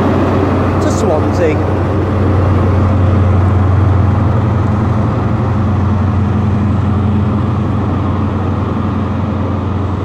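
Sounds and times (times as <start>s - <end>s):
train diesel engine humming: 0.0s - 10.0s.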